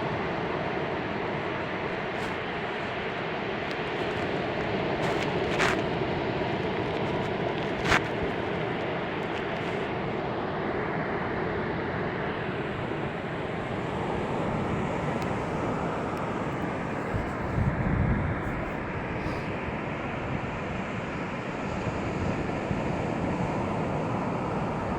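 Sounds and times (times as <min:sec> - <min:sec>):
waves washing onto beach: 0:00.0 - 0:24.9.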